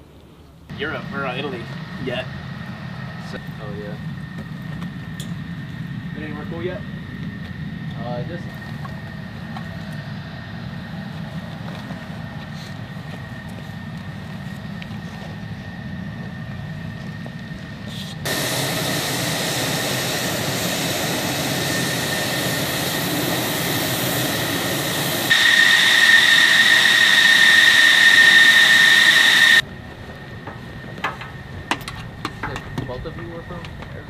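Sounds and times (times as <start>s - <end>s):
high-pitched jet whine: 0.7s - 31.7s
jet engine running: 0.7s - 34.0s.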